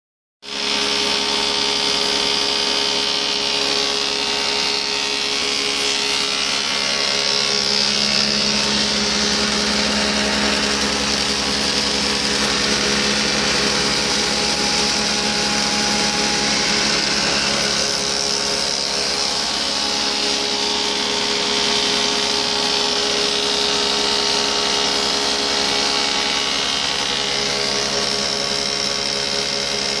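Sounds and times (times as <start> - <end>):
planer milling wooden board: 0.4 - 30.0.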